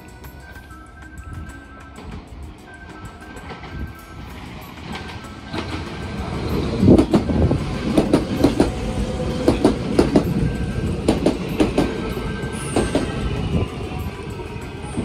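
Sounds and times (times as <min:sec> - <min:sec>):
train rumble: 0:00.0 - 0:15.0
train wheels clacking over rail joints: 0:02.0 - 0:15.0.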